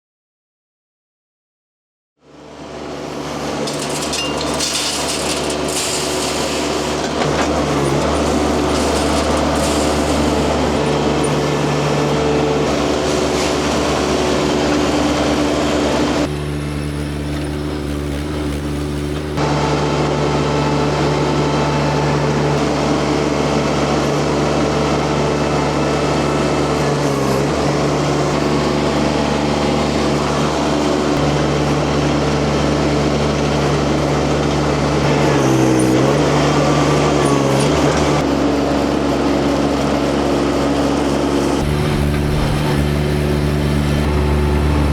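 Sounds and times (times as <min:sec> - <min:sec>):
skid steer engine running: 0:02.2 - 0:44.9.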